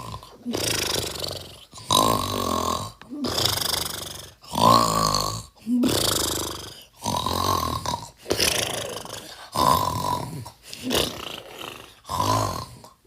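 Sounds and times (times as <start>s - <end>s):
loud rattling snores: 0.0s - 13.0s.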